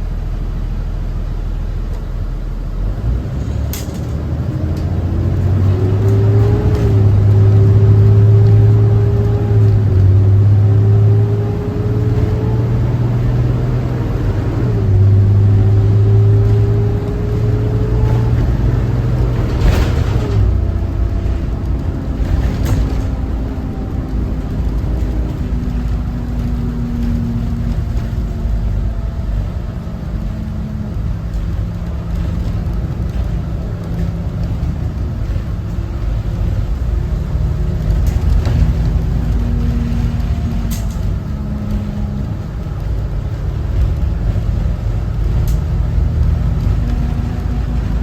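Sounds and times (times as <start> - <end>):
bus diesel engine accelerating: 0.0 - 48.0.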